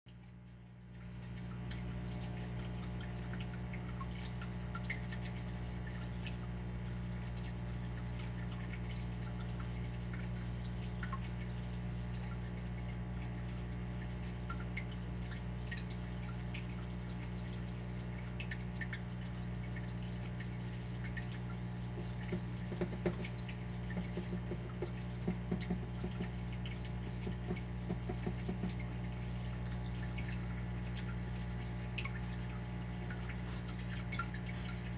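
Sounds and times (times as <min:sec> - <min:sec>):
water dripping: 0:00.1 - 0:34.9.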